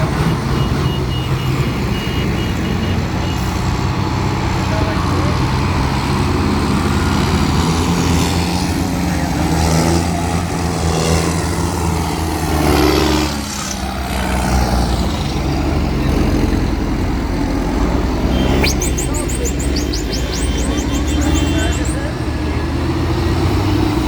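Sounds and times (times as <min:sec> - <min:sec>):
tractor and lorry engines: 0:00.0 - 0:24.0.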